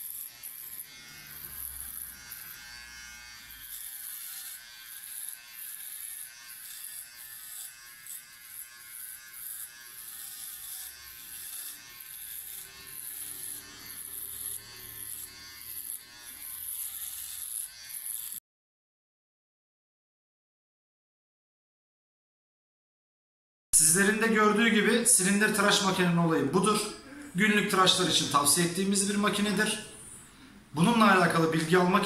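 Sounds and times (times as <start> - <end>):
electric shaver buzzing: 0.0 - 18.4, 23.8 - 32.0.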